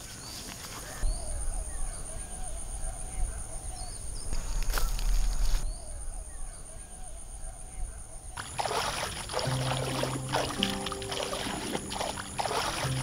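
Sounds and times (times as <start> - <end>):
birds warbling and chirping: 0.1 - 13.0.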